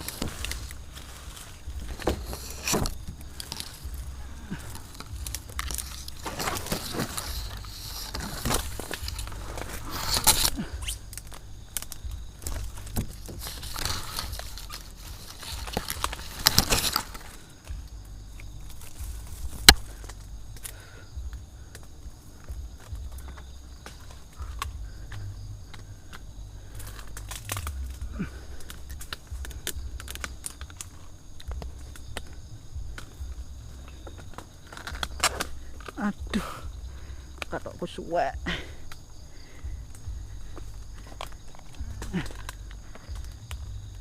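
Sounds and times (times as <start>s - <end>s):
branches rustling and scraping: 0.0s - 44.0s
steady low rumble: 0.0s - 44.0s.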